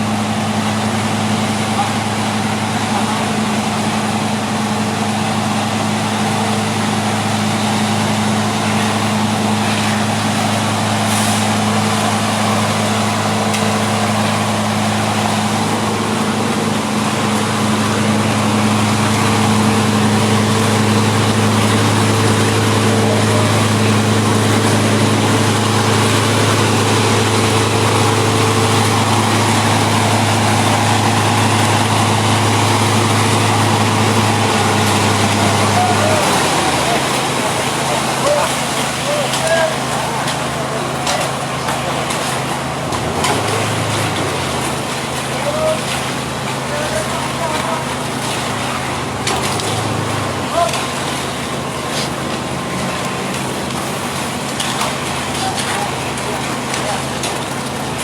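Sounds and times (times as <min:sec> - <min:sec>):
diesel machinery engine running: 0:00.0 - 0:58.0.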